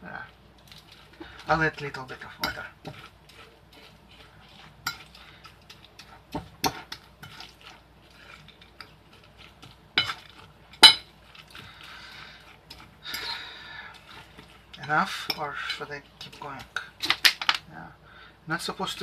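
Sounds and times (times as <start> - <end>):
fork scraping oats on plate: 0.8 - 16.9.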